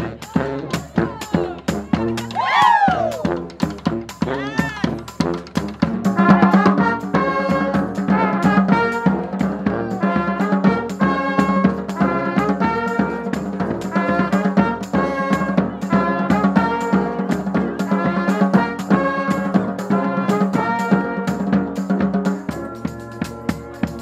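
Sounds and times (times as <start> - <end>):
brass band playing: 0.0 - 24.0
saxophone: 0.0 - 24.0.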